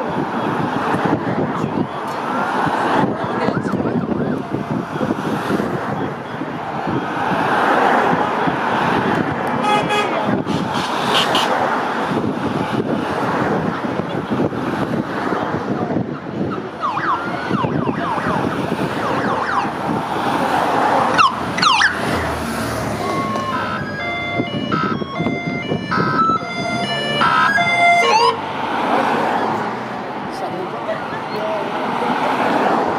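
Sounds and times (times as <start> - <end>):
emergency vehicle sirens: 0.0 - 29.6
crowd noise: 0.0 - 32.9.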